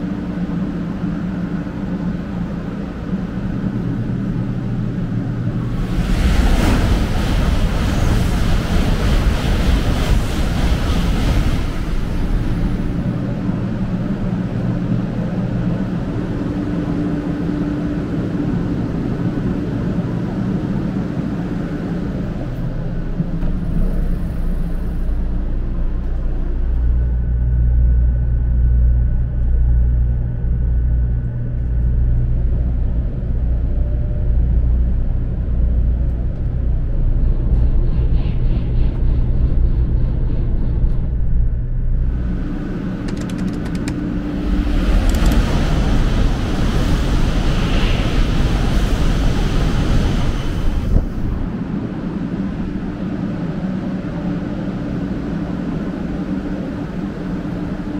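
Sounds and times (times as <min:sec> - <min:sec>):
train running noise from inside: 0:00.0 - 0:57.9.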